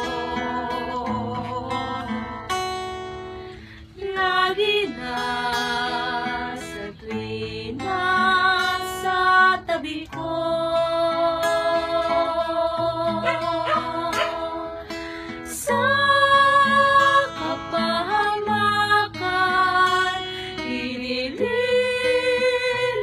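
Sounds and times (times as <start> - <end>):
women singing together: 0.0 - 2.6, 3.9 - 23.0
strummed acoustic guitar: 0.0 - 23.0.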